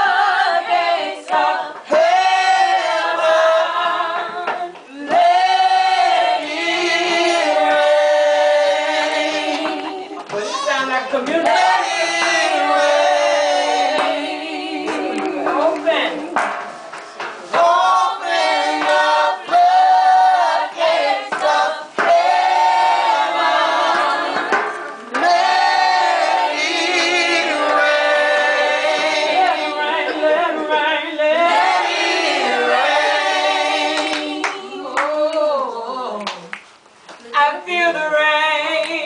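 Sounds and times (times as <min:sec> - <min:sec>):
group singing gospel song: 0:00.0 - 0:36.5, 0:37.2 - 0:39.0.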